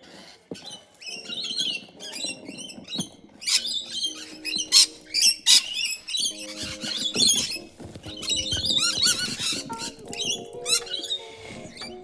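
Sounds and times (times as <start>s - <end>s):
small birds chirping: 0.0s - 12.0s
soft background music: 0.0s - 12.0s.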